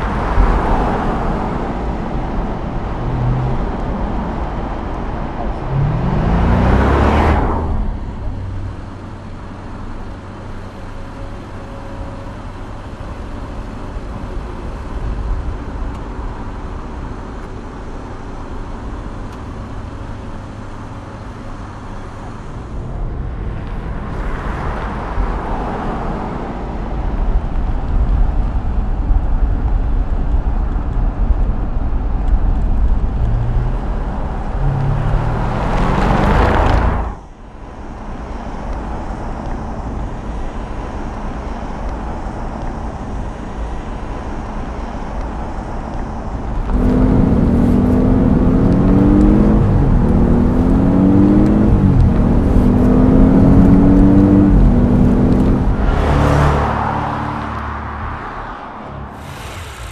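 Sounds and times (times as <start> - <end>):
car engine accelerating: 0.0 - 59.9
tyre and road noise: 0.0 - 59.9.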